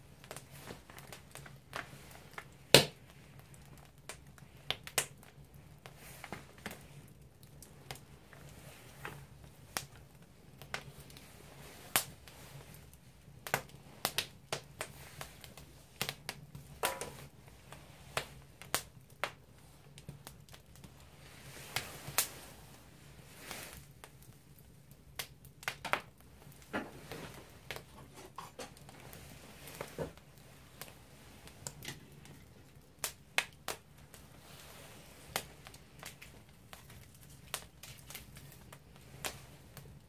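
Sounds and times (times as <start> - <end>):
firewood crackling and popping: 0.0 - 40.0.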